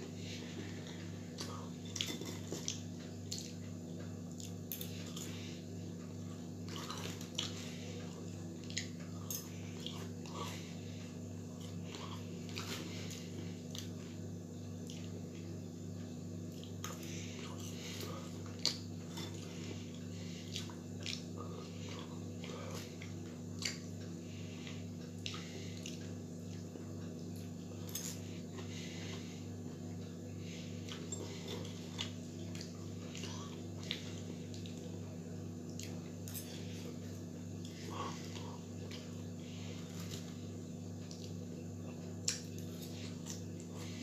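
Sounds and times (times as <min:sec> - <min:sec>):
low electrical hum: 0:00.0 - 0:44.0
man chewing fries: 0:00.0 - 0:44.0.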